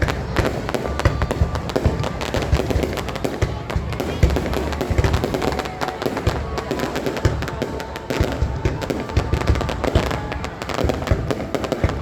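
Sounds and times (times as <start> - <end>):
fireworks cracking and crackling: 0.0 - 12.0
fireworks deep booms: 0.0 - 12.0.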